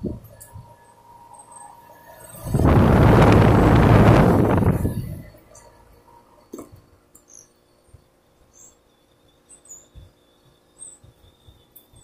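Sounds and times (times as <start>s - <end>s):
thin steady high tone: 0.0s - 12.0s.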